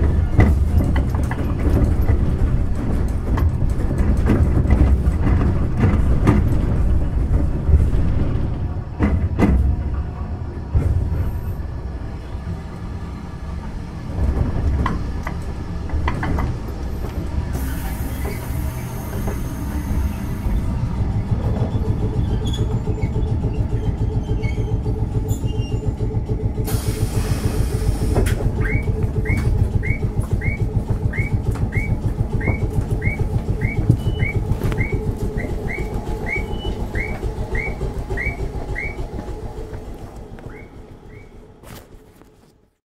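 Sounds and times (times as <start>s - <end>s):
tram running rumble: 0.0s - 42.8s.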